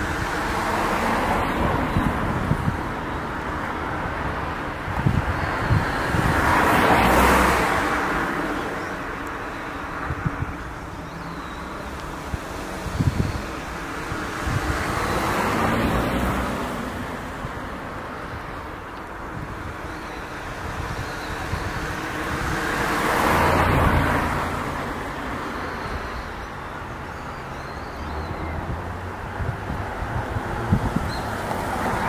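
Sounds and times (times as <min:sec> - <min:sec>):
traffic rumble: 0:00.0 - 0:32.0
vehicles passing: 0:00.0 - 0:32.0.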